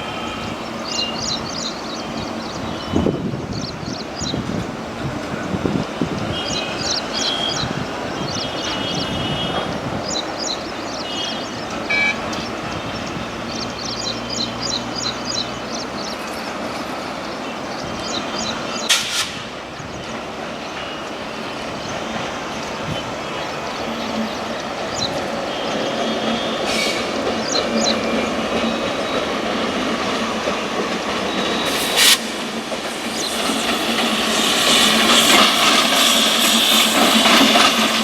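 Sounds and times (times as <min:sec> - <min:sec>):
train diesel engine running: 0:00.0 - 0:38.0
birds chirping: 0:00.3 - 0:04.5, 0:05.4 - 0:19.0, 0:19.7 - 0:38.0.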